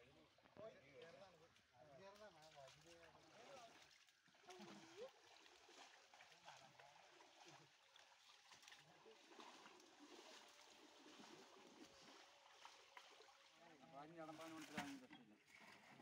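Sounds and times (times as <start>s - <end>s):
water sloshing and splashing: 1.6s - 16.0s.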